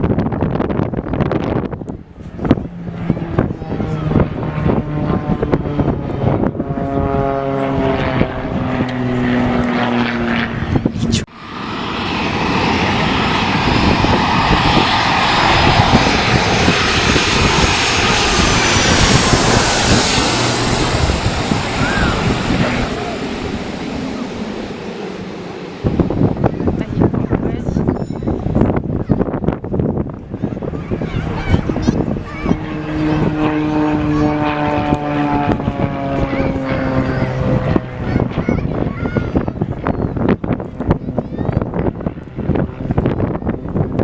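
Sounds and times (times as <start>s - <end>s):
aircraft passing rush: 0.0s - 44.0s
propeller engine drone: 0.0s - 44.0s.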